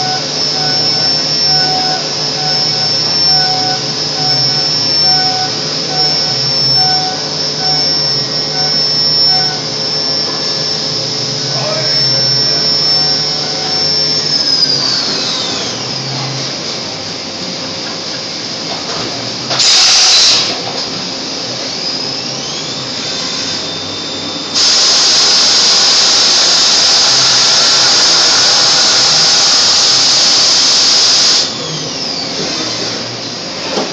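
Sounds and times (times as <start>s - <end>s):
end mill cutting aluminium: 0.0s - 17.0s, 19.4s - 20.7s, 21.4s - 33.7s
milling spindle high whine: 0.0s - 33.9s.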